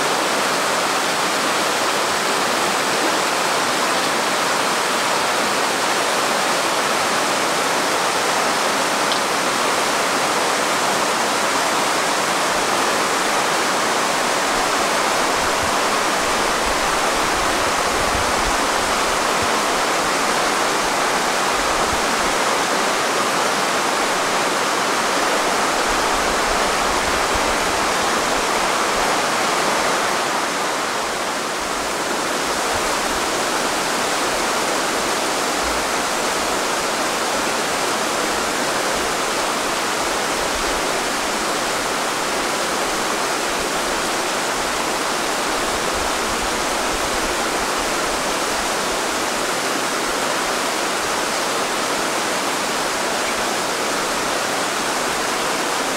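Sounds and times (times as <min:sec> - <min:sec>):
mountain stream rushing: 0:00.0 - 0:55.9.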